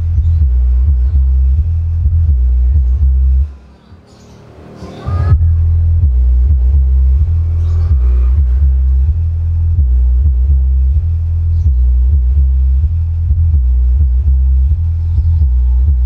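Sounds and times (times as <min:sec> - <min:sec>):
deep bass line: 0:00.0 - 0:03.6, 0:05.1 - 0:16.0.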